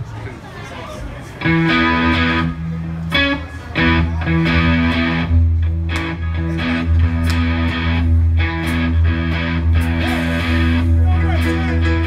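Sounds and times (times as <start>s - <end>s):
bass guitar: 1.4s - 12.0s
electric guitar chords: 1.4s - 12.0s.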